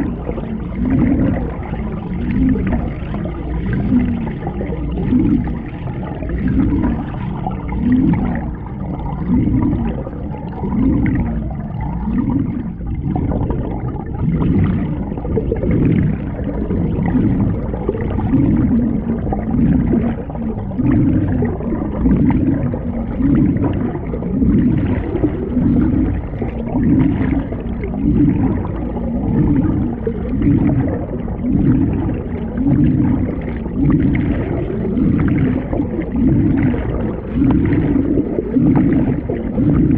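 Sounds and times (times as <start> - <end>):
underwater water rushing and gurgling: 0.0 - 39.9.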